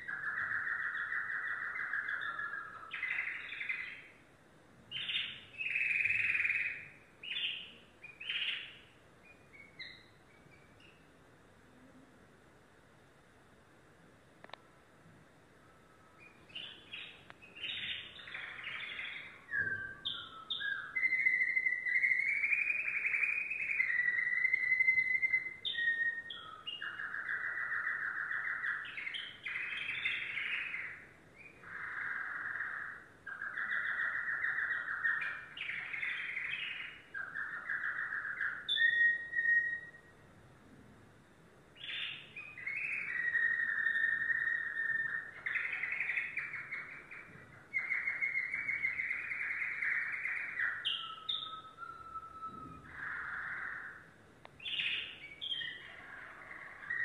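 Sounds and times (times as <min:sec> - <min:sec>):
canary singing trills: 0:00.0 - 0:12.1, 0:15.6 - 0:57.0.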